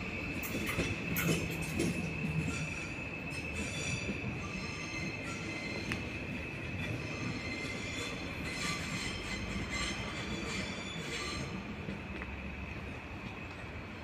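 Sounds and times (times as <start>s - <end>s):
train rumbling: 0.0s - 14.0s
train wheels squealing on rails: 0.0s - 14.0s.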